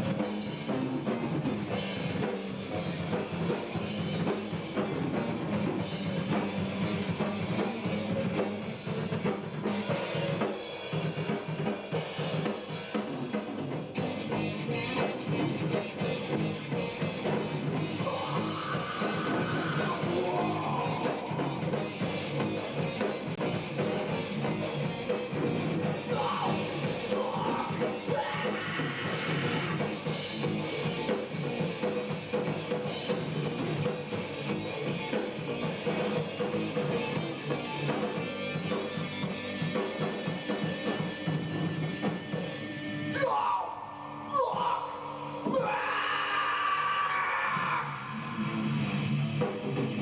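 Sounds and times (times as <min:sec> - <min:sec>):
bass guitar: 0:00.0 - 0:43.3, 0:44.0 - 0:50.0
drum kit: 0:00.0 - 0:50.0
electric guitars: 0:00.0 - 0:50.0.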